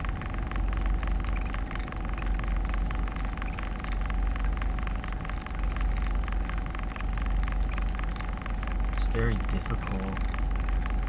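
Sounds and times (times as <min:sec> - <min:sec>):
car cabin rumble: 0:00.0 - 0:11.0
faint steady hum: 0:00.0 - 0:11.0.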